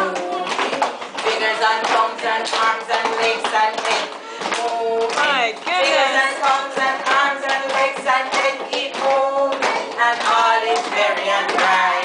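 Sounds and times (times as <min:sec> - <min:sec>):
children singing: 0:00.0 - 0:12.0
hand claps: 0:00.0 - 0:12.0.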